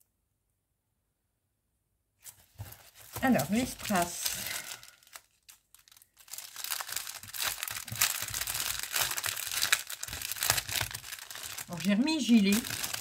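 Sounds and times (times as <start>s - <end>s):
plastic packaging crinkling: 2.2s - 13.0s.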